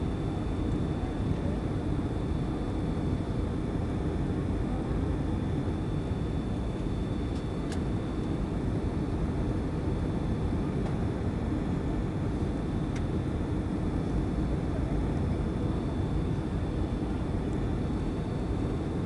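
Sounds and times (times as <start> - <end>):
airliner engine and airflow rumble: 0.0 - 19.0
faint high steady whine: 0.0 - 19.0.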